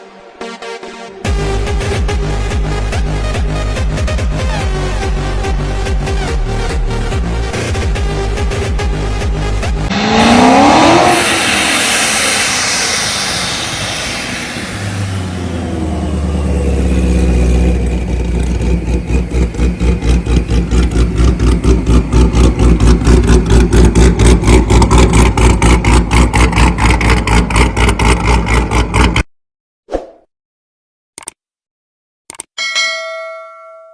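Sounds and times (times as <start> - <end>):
car engine pulsing drone: 1.3 - 29.2.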